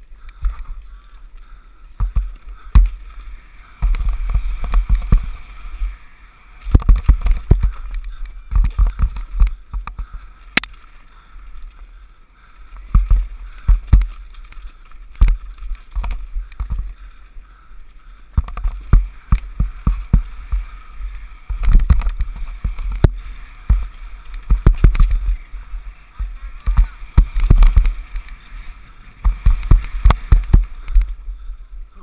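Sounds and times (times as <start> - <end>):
mountain bike clattering over bumps: 0.0 - 12.0, 12.7 - 31.5
wind rumbling on microphone: 0.0 - 32.0.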